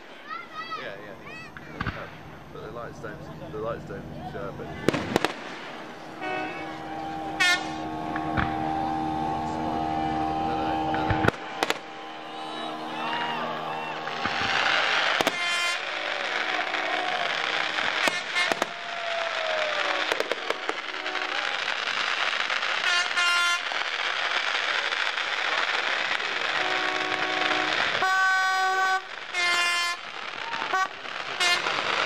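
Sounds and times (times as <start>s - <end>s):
fireworks bangs: 0.0s - 32.0s
fireworks crackling: 0.0s - 32.0s
horns tooting: 1.9s - 32.0s.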